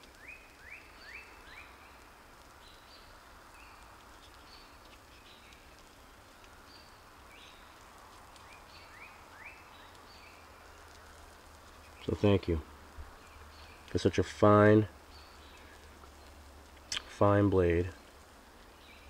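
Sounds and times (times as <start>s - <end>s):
faint woodland ambience: 0.0s - 19.0s
bird chirping: 0.1s - 19.0s.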